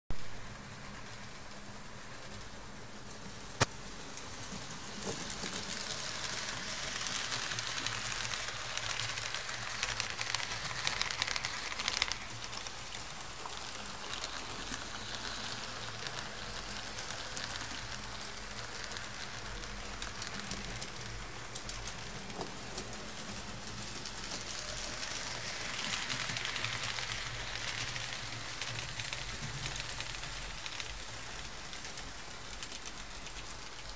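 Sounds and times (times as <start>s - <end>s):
model train wheels rattling on rails: 0.4s - 33.9s.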